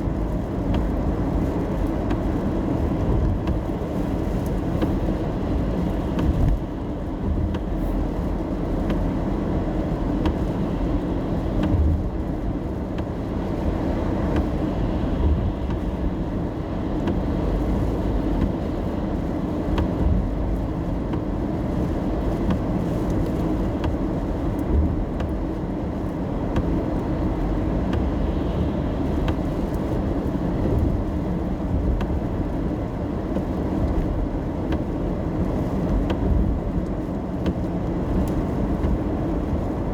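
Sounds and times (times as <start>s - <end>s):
car road noise rumble: 0.0s - 39.9s
faint rain taps: 0.0s - 39.9s.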